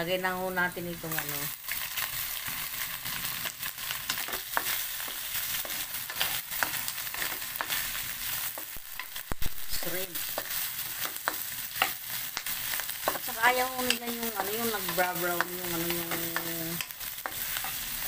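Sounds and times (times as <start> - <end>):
shrimp sizzling in hot oil: 0.0 - 18.0
wooden spatula scraping a wok: 2.0 - 18.0.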